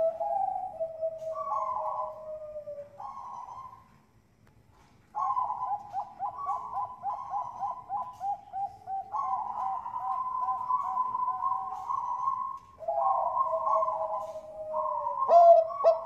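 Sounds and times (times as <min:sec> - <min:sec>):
dove cooing: 0:00.0 - 0:04.0, 0:04.7 - 0:16.0.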